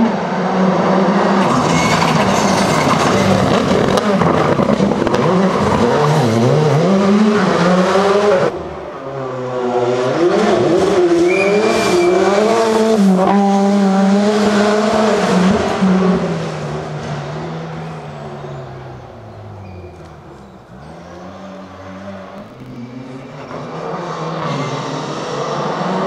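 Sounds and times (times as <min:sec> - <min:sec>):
rally car engine accelerating: 0:00.0 - 0:26.0
car shifting gears: 0:01.1 - 0:08.6, 0:09.7 - 0:26.0.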